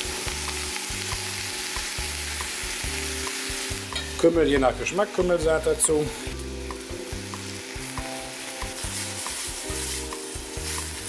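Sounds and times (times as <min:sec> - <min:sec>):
faint background music: 0:00.0 - 0:11.0
onions sizzling in oil: 0:00.0 - 0:11.0.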